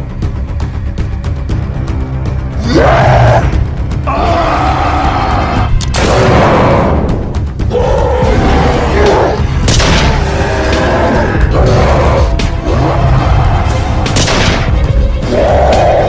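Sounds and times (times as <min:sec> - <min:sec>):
dramatic music with heavy bass: 0:00.0 - 0:16.0.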